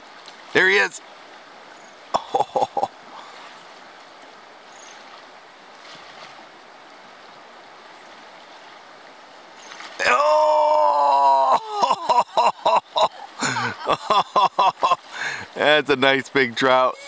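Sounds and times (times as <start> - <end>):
river flowing over riffle: 0.0 - 17.0.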